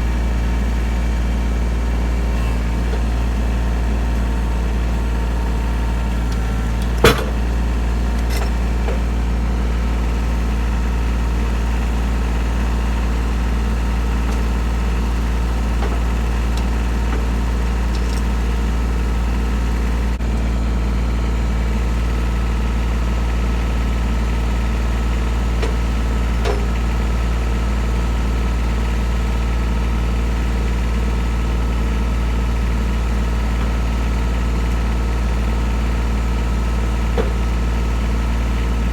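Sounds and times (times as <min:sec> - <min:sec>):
sawmill milling a log: 0:00.1 - 0:20.6, 0:21.7 - 0:38.9.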